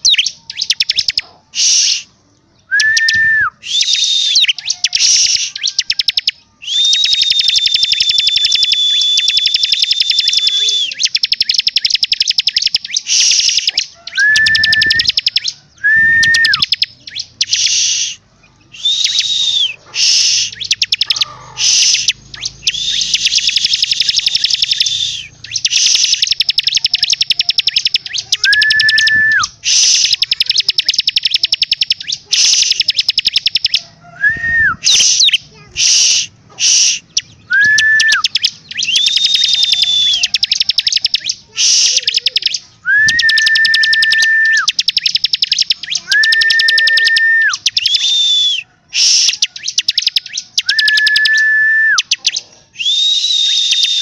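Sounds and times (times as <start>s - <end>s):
bird singing buzzy trills: 0.0s - 54.0s
bird whistled notes: 2.7s - 54.0s.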